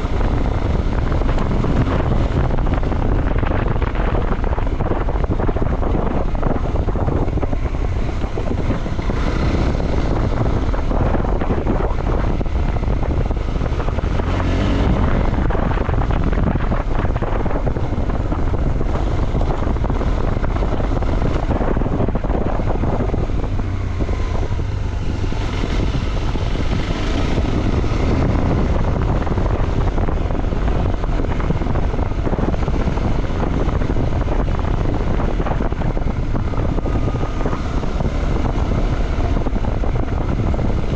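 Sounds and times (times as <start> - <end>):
motorcycle engine rumble: 0.0 - 40.9
wind buffeting microphone: 0.0 - 40.9.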